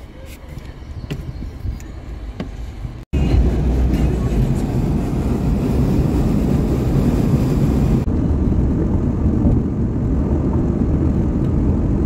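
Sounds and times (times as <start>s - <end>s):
car tyre and engine rumble: 0.0s - 12.0s.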